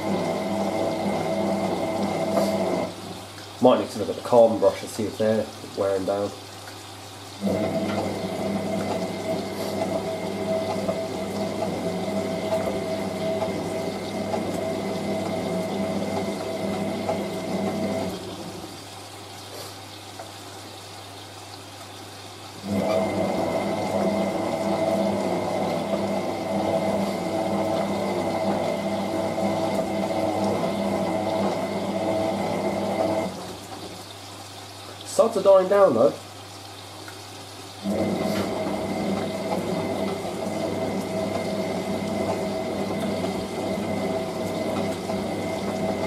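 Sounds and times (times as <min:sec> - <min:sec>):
washing machine drum motor whine: 0:00.0 - 0:19.4, 0:21.8 - 0:46.0
water and towels settling: 0:00.0 - 0:20.9, 0:22.5 - 0:46.0.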